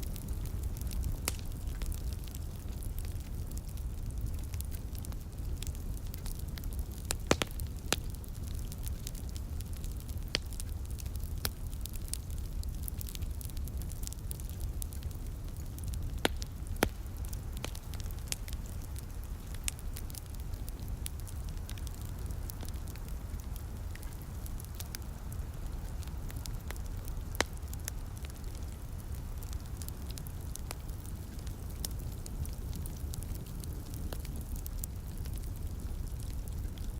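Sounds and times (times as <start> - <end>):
sharp pops of fire: 0.0 - 3.4, 4.0 - 36.9
wood fire crackling: 0.0 - 36.9.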